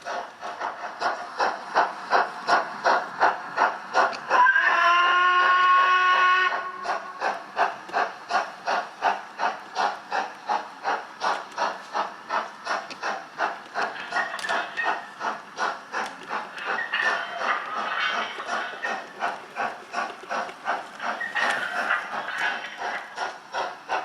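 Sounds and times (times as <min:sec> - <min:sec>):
steam hiss: 0:00.0 - 0:24.0.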